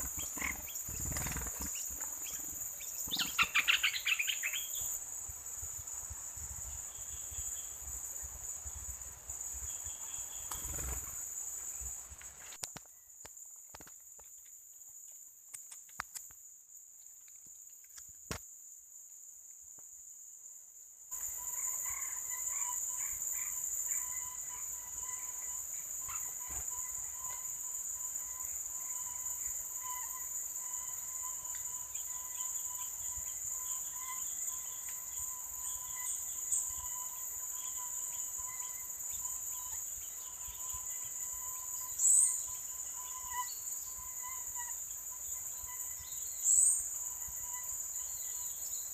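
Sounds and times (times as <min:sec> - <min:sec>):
faint chirps: 0:00.0 - 0:16.3, 0:21.1 - 0:48.9
crickets or cicadas droning: 0:00.0 - 0:48.9.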